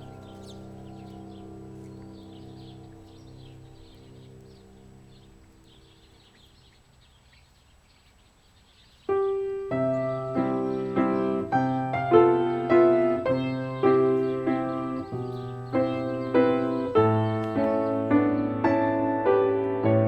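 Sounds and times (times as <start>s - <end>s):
slow piano melody: 0.0s - 6.8s, 9.1s - 20.0s
faint bird chirps: 0.0s - 18.8s.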